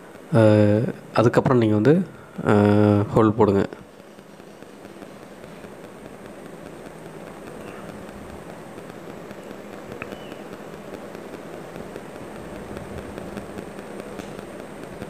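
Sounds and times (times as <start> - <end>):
low hum and rushing noise: 0.0 - 15.0.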